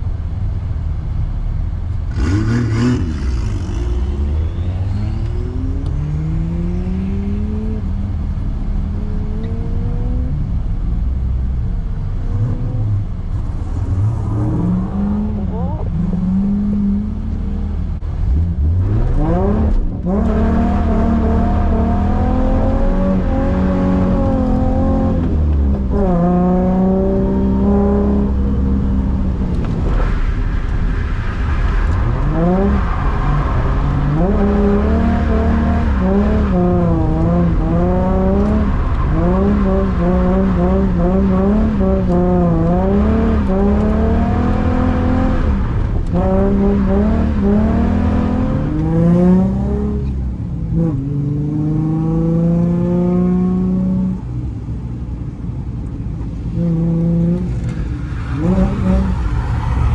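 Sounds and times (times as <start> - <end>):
car engine revving: 1.9 - 59.9.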